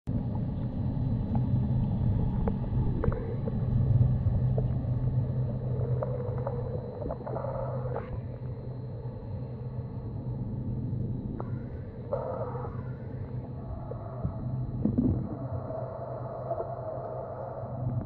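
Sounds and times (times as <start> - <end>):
underwater rumble: 0.1 - 18.0.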